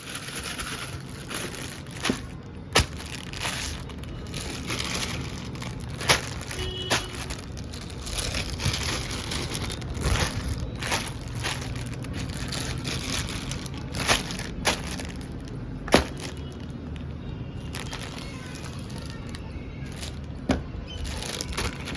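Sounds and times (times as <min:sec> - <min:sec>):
packaging crinkling and rustling: 0:00.0 - 0:21.9.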